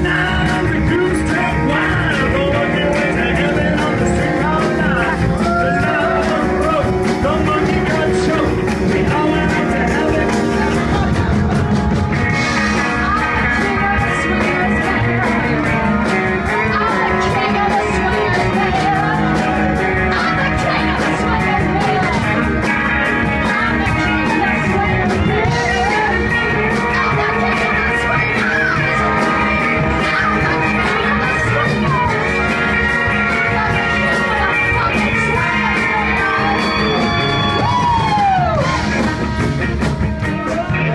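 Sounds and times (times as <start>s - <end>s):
woman singing: 0.0s - 12.0s, 12.6s - 39.5s
live band playing: 0.0s - 40.9s.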